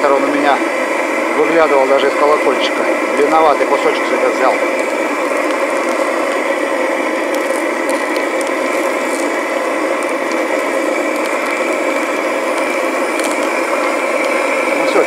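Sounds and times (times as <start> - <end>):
crackling in molten metal: 0.0 - 15.0.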